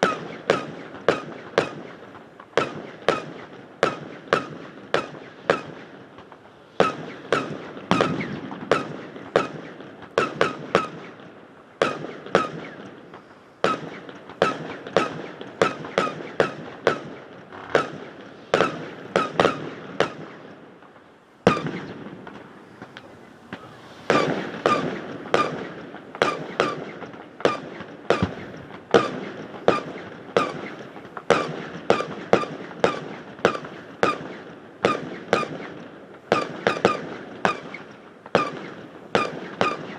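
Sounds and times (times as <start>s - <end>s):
firework bangs with metallic echo: 0.0s - 39.9s.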